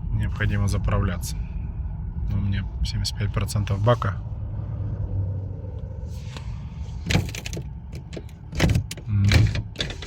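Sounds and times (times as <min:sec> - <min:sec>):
idling engine low hum: 0:00.0 - 0:10.0.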